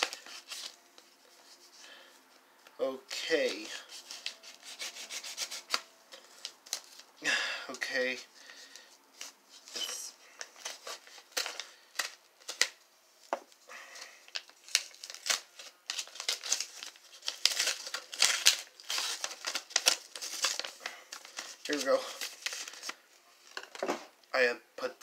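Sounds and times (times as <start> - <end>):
paper crinkling and rustling: 0.0 - 2.0, 3.2 - 7.1, 8.6 - 12.8, 14.0 - 23.9.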